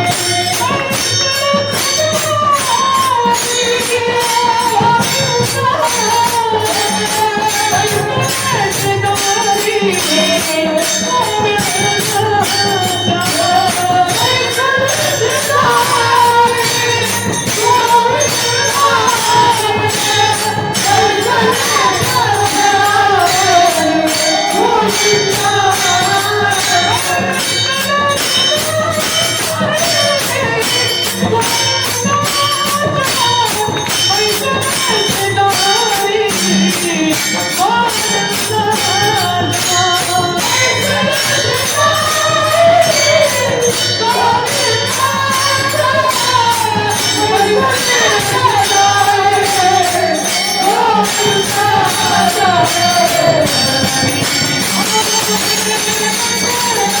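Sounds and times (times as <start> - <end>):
person singing devotional melody: 0.0 - 57.0
small hand cymbals: 0.0 - 57.0.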